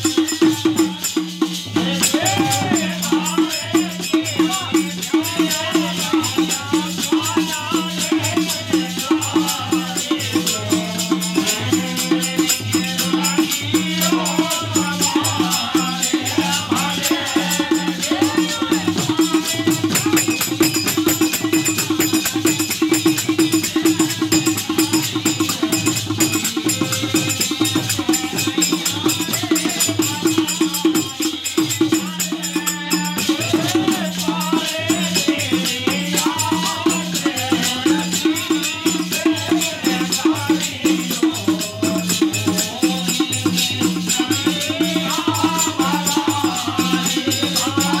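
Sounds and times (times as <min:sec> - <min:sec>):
fast dholak drumming: 0:00.0 - 0:48.0
rattling percussion: 0:00.0 - 0:48.0.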